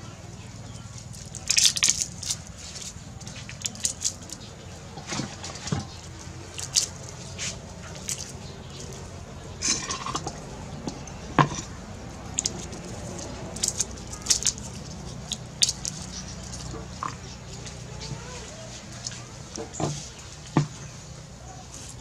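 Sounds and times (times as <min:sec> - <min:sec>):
garlic skins crackling: 0:00.6 - 0:22.0.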